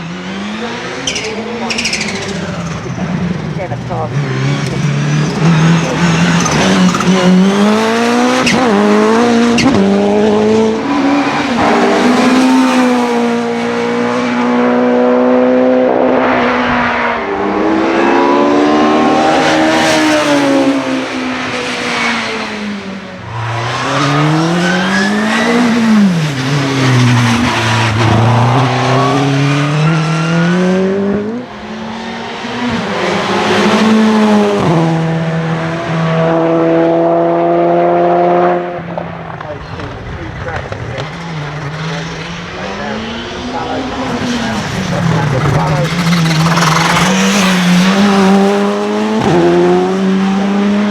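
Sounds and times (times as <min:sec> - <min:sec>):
racing car engine revving: 0:00.0 - 0:50.9.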